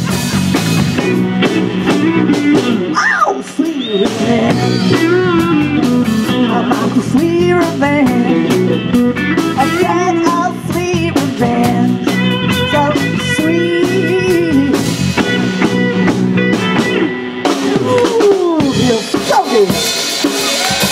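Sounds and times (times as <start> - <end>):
bass: 0.0 - 20.9
drum kit: 0.0 - 20.9
electric guitars: 0.0 - 20.9.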